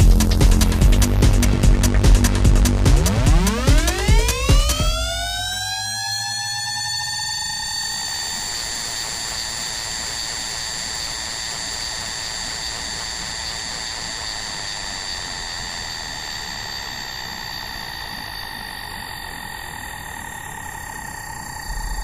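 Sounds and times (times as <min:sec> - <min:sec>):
downward synth sweep: 0:00.0 - 0:22.0
grainy noise bed: 0:00.0 - 0:22.0
synthesizer drone: 0:00.0 - 0:22.0.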